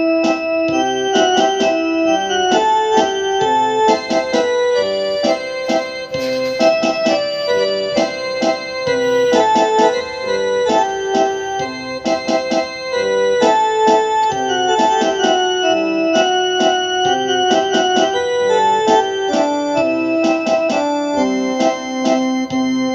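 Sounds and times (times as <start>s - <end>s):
electric piano music: 0.0s - 22.9s.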